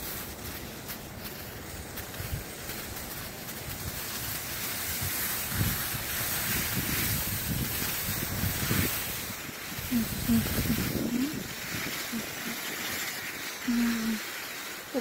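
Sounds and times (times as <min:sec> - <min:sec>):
steady hiss: 0:00.0 - 0:15.0
wind buffeting microphone: 0:01.3 - 0:15.0.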